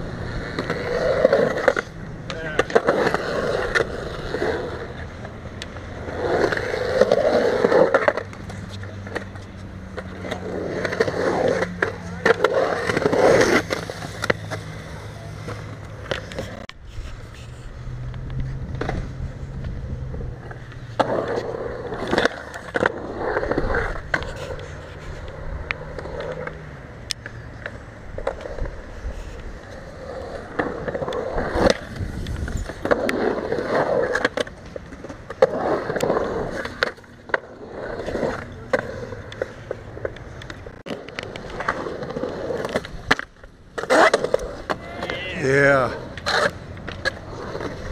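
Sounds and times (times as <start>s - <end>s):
skateboard clacks: 0.0s - 17.4s, 18.3s - 47.9s
skateboard wheels rumbling on concrete: 0.0s - 47.9s.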